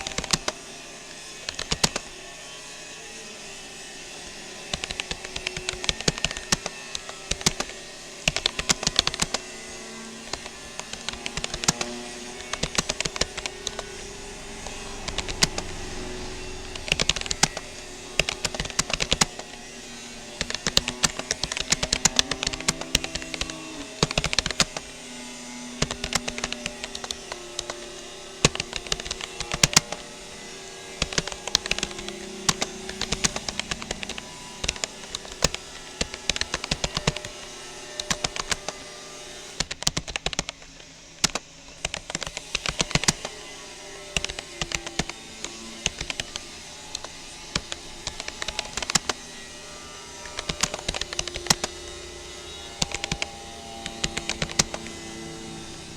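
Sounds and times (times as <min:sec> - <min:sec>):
keyboard typing clicks: 0:00.0 - 0:00.6, 0:01.5 - 0:02.1, 0:04.7 - 0:09.5, 0:10.2 - 0:19.7, 0:20.4 - 0:25.1, 0:25.7 - 0:30.1, 0:31.0 - 0:38.8, 0:39.6 - 0:43.3, 0:44.0 - 0:49.2, 0:50.2 - 0:55.1.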